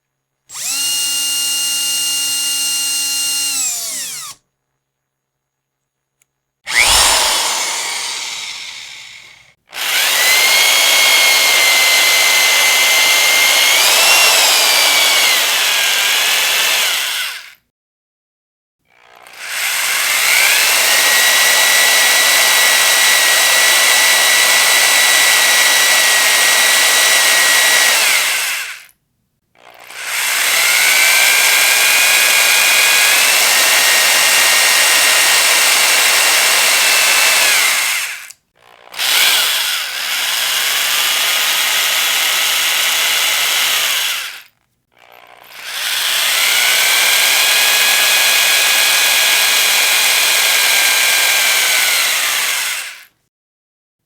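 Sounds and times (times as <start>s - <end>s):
electric drill motor whine: 0.5s - 4.4s, 6.7s - 17.6s, 19.2s - 28.9s, 29.6s - 53.1s.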